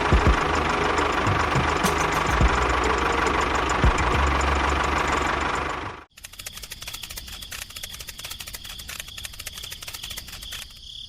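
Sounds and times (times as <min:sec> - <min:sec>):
faint rapid ticking: 0:00.0 - 0:10.8
small engine knocking rattle: 0:00.0 - 0:10.8.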